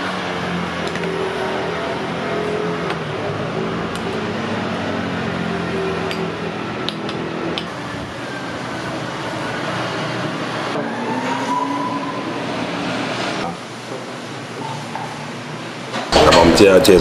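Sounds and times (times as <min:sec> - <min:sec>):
low engine drone: 0:00.0 - 0:15.2.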